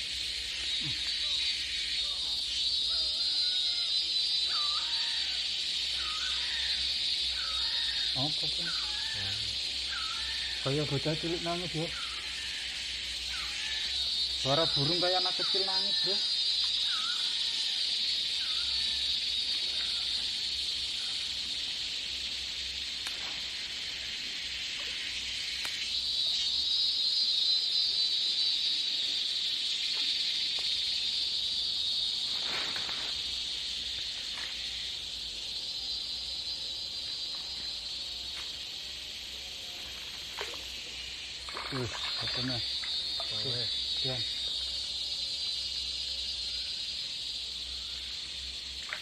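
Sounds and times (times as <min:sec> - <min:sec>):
insects droning: 0:00.0 - 0:49.0.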